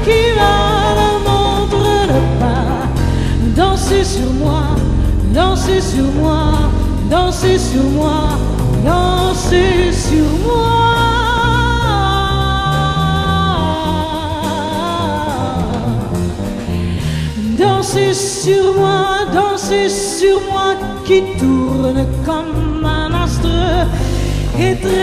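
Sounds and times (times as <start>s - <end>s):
piano: 0.0s - 25.0s
upright bass: 0.0s - 25.0s
woman singing: 0.0s - 25.0s.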